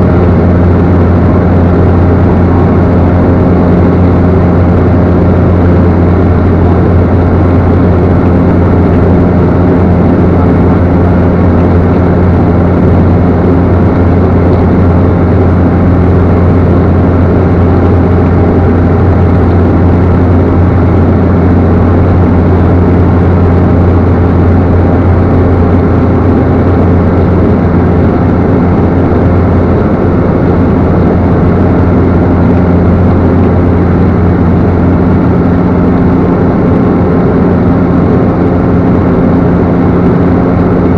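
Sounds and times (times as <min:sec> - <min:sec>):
turboprop engine drone: 0:00.0 - 0:40.9.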